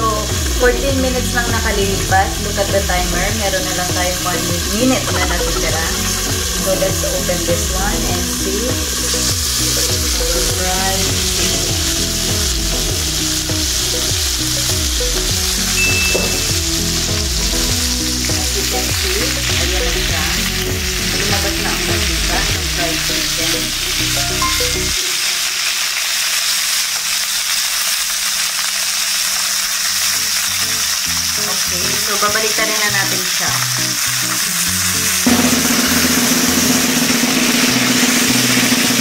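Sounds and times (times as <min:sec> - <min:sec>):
background music: 0:00.0 - 0:25.3, 0:30.5 - 0:39.0
chicken sizzling in skillet: 0:00.0 - 0:39.0.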